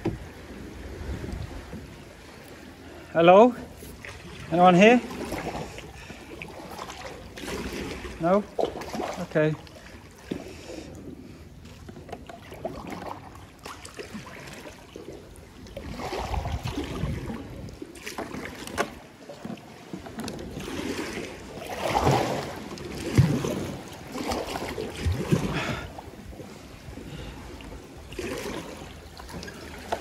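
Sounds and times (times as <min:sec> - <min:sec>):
water splashing around kayak: 0:00.0 - 0:30.0.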